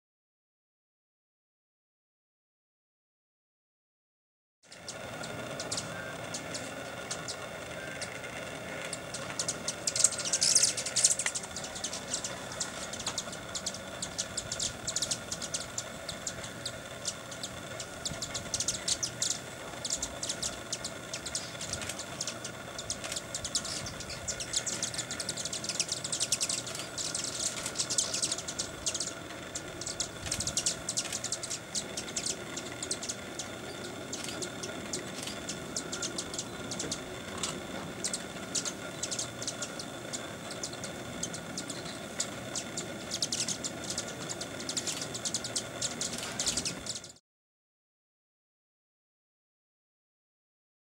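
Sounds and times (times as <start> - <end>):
hummingbirds chittering: 4.7 - 47.2.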